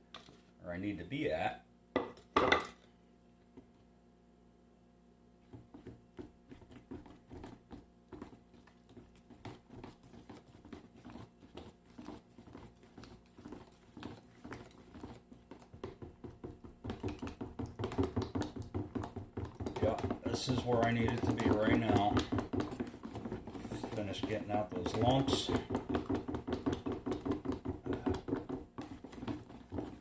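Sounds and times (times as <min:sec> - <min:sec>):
stirrer tapping and scraping can: 0:05.4 - 0:30.0.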